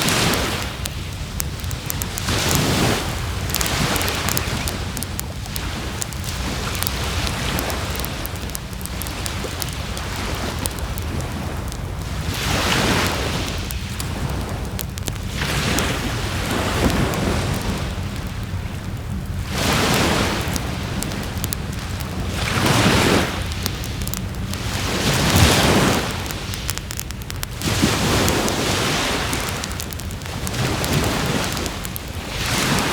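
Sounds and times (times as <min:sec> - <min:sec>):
bonfire crackling: 0:00.0 - 0:32.9
sea waves surging onto shore: 0:00.0 - 0:32.9.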